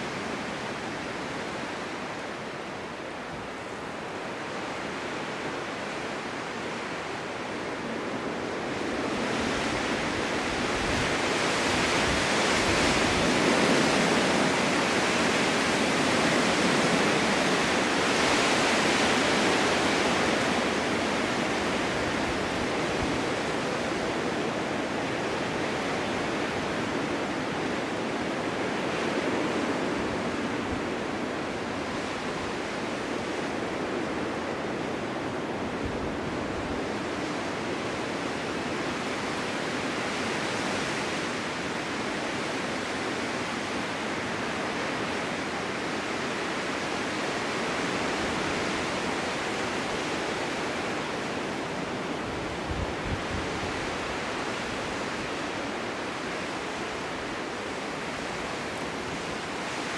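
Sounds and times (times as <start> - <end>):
strong wind blowing snow: 0.0 - 59.9.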